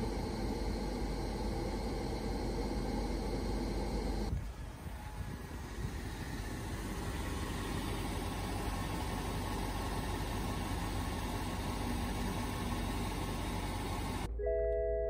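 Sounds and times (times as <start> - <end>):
car engine idling: 0.0 - 14.3
air conditioning running: 0.0 - 14.4.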